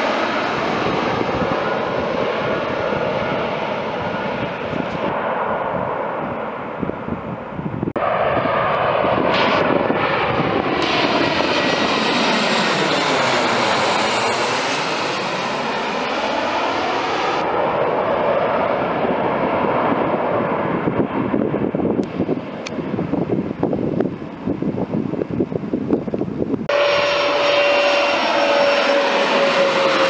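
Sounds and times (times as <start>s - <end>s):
jet airliner passing overhead: 0.0s - 30.0s
wind buffeting microphone: 0.0s - 30.0s.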